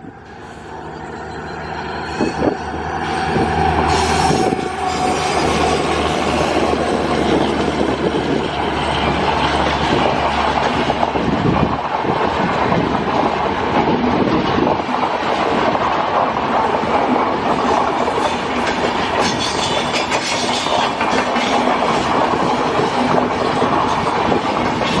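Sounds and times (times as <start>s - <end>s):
train wheels rumbling on rails: 0.0s - 25.0s
clickety-clack over rail joints: 2.1s - 25.0s.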